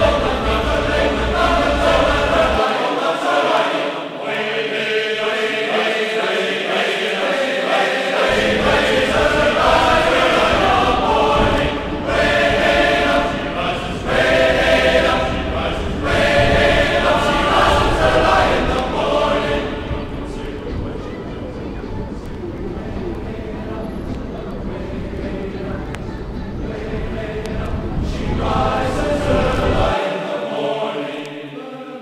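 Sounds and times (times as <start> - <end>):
voices singing together: 0.0 - 32.0.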